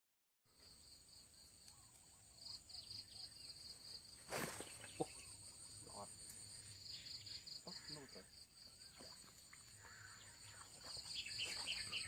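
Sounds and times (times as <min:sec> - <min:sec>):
insects chirping trill: 0:00.5 - 0:12.0.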